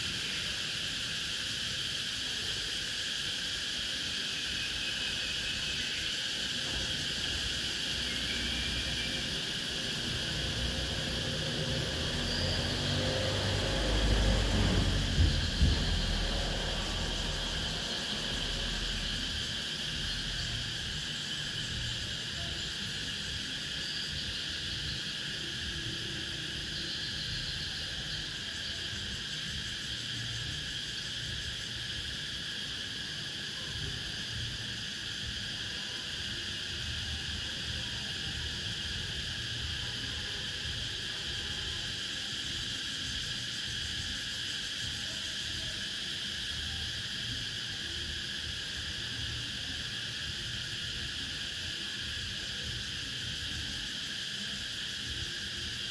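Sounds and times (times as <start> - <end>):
cicadas singing: 0.0 - 55.9.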